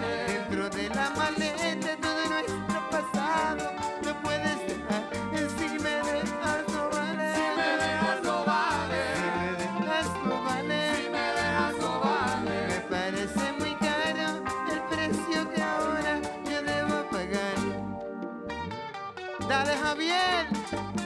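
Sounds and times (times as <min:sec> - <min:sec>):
live band with guitars and drums: 0:00.0 - 0:21.0.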